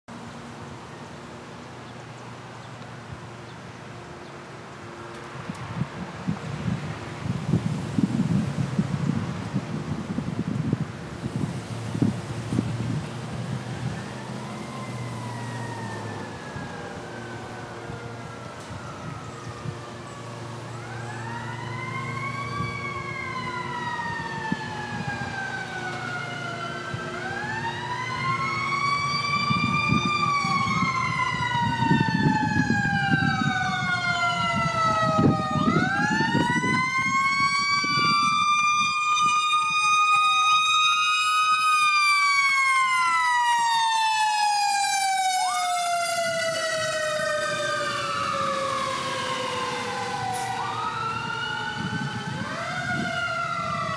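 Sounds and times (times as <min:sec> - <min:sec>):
truck engine rumble: 0:00.3 - 0:53.9
fire truck siren wailing: 0:05.2 - 0:53.9.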